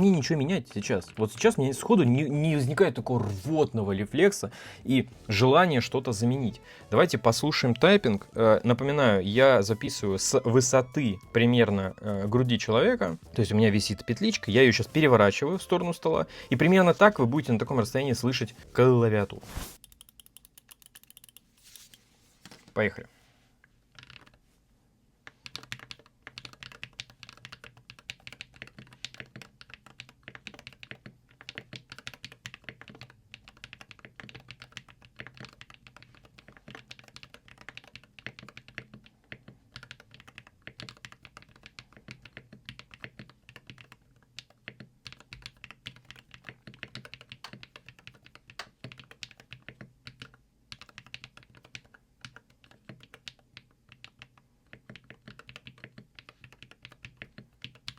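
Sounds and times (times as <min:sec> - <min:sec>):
fast keyboard typing: 0:00.0 - 0:03.4, 0:04.9 - 0:18.4, 0:19.8 - 0:21.5, 0:23.9 - 0:24.4, 0:25.3 - 0:57.9.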